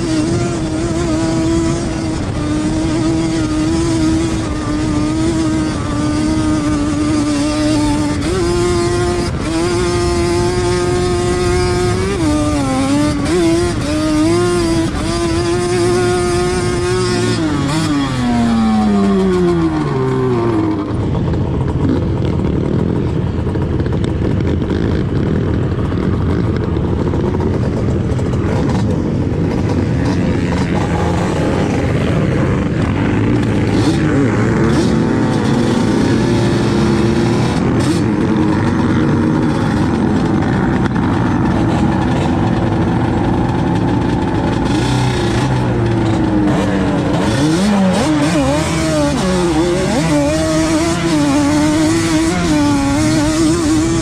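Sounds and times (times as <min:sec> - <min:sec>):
quad engine revving: 0:00.0 - 0:54.0
wind noise on microphone: 0:00.0 - 0:54.0.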